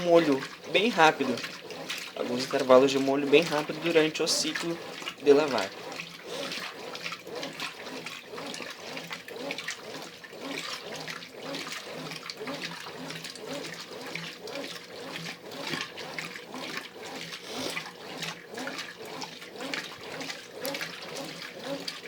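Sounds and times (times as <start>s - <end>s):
washing machine agitating: 0.0s - 22.0s.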